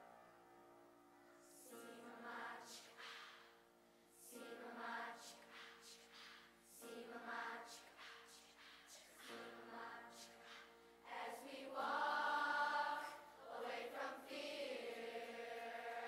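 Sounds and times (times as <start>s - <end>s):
choir singing softly: 1.4s - 16.0s.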